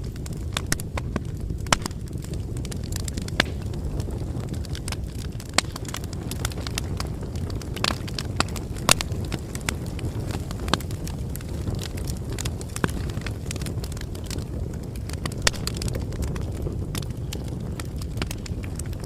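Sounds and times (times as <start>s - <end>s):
burning wood popping and crackling: 0.0s - 19.0s
rumble of flames: 0.0s - 19.0s.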